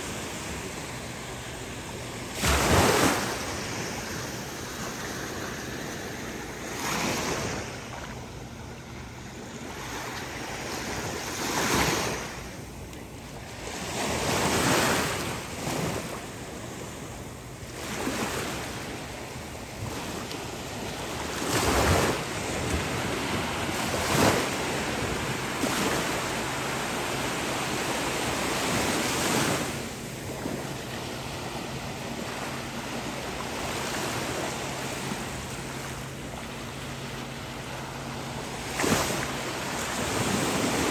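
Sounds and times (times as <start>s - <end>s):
small waves breaking on shore: 0.0s - 40.9s
surf hiss: 0.0s - 40.9s.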